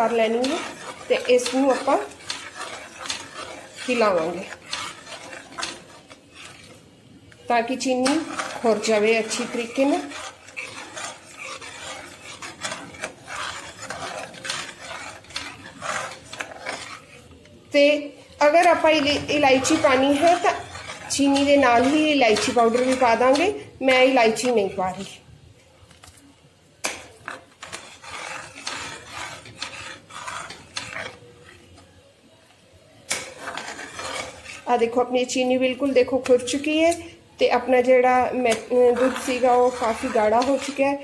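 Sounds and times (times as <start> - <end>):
metal spoon scraping a pan: 0.0 - 25.2, 26.8 - 32.0, 32.9 - 41.0.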